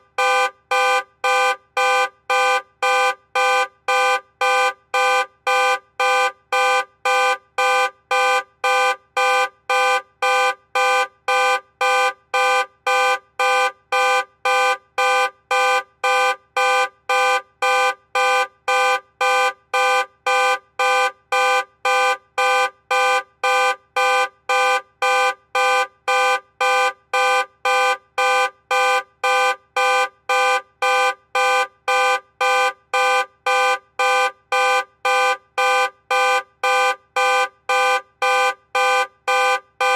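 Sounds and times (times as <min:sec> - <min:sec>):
car alarm horn blasts: 0:00.1 - 0:39.9.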